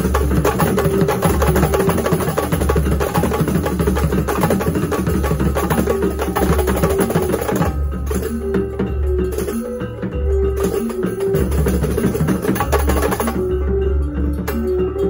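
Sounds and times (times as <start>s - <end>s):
frame drums in fast rhythm: 0.0s - 13.6s.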